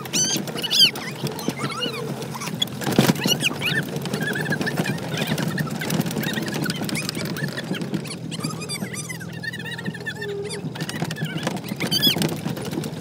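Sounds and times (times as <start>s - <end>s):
high arched squeaks: 0.0s - 12.2s
tractor engine humming: 0.0s - 13.0s.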